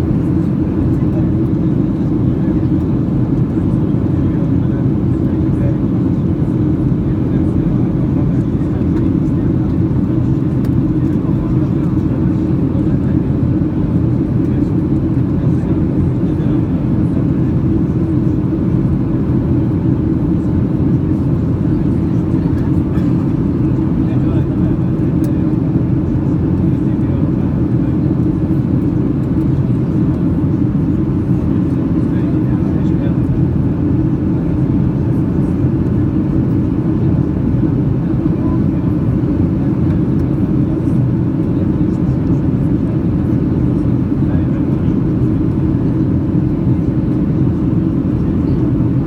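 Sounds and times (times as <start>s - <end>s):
airplane cabin engine roar: 0.0s - 49.0s.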